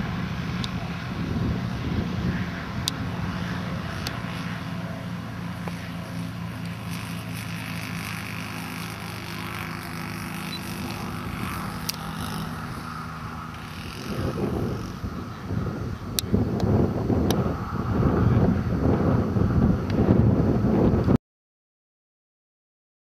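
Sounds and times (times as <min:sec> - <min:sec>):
model aircraft engine running: 0:00.0 - 0:21.2.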